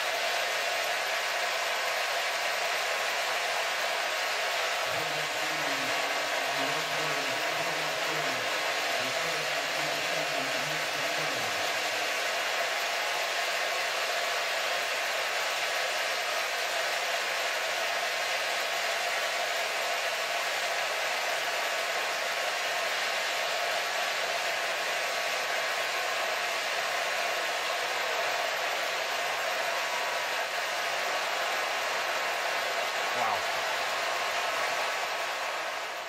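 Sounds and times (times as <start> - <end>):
stadium crowd applauding and cheering: 0.0 - 36.0.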